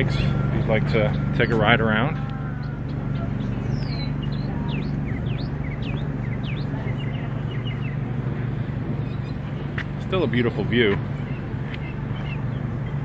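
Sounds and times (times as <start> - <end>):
low machine hum: 0.0 - 13.0
small birds chirping: 0.0 - 13.0.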